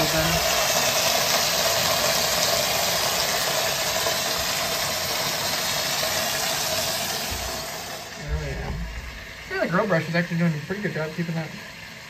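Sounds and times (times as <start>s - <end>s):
water jetting from a hose: 0.0s - 12.0s.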